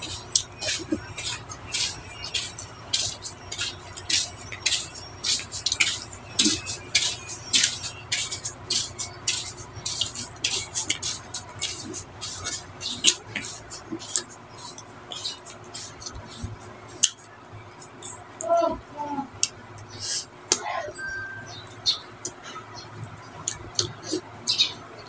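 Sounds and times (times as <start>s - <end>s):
wet chewing and lip-smacking: 0.0s - 18.5s, 21.5s - 25.0s.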